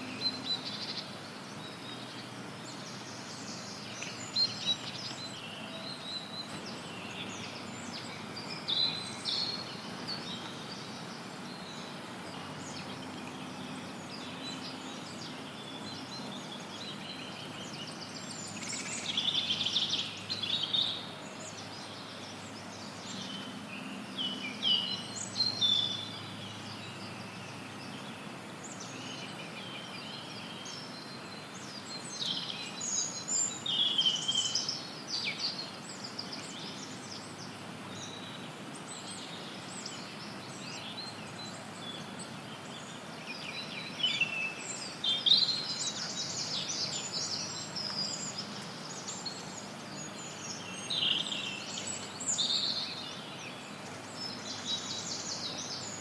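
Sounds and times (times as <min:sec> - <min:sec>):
songbirds chirping and trilling: 0:00.0 - 0:56.0
steady white noise hiss: 0:00.0 - 0:56.0.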